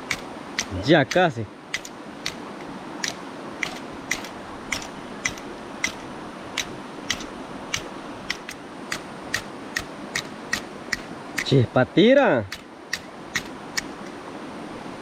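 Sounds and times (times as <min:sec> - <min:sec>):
fire starter scraping strikes: 0:00.0 - 0:11.6, 0:12.5 - 0:14.2.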